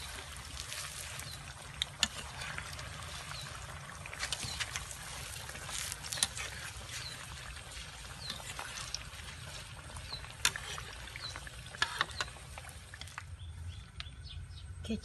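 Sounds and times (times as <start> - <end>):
food deep-frying in oil: 0.0 - 14.5.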